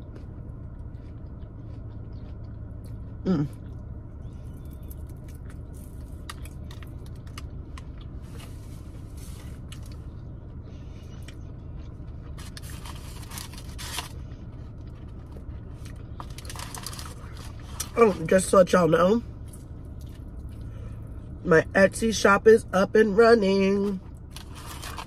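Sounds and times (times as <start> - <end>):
chewing fried food: 0.0 - 22.3, 23.0 - 25.0
car cabin hum: 0.0 - 25.0.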